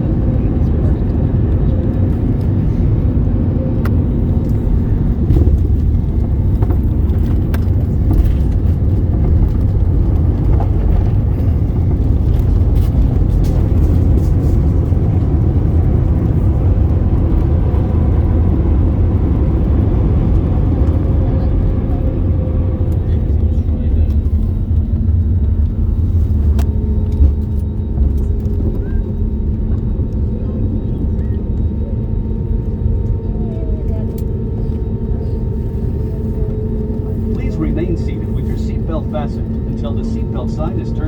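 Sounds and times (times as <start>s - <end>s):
aircraft cabin rumble: 0.0s - 41.0s.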